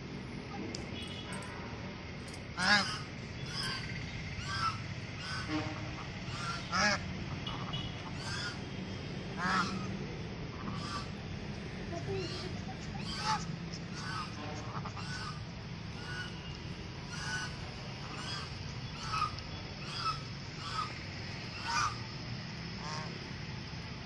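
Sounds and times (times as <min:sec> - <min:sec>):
ducks calling: 0:02.6 - 0:08.8, 0:09.4 - 0:23.3.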